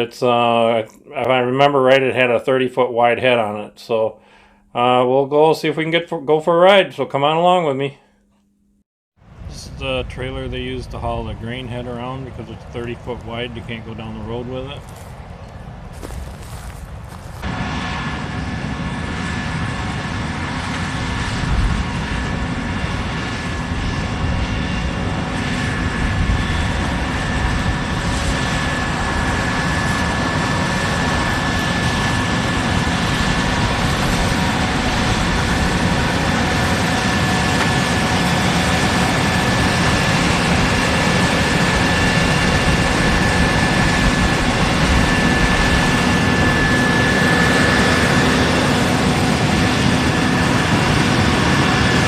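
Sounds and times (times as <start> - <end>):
high machinery whine: 7.2 - 52.0
combine harvester engine drone: 9.2 - 52.0.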